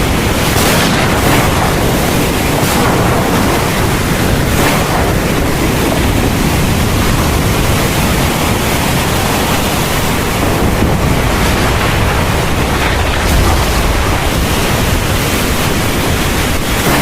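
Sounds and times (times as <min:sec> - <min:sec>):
deep low thunder rumble: 0:00.0 - 0:08.9, 0:10.0 - 0:17.0
heavy rain pouring: 0:00.0 - 0:17.0.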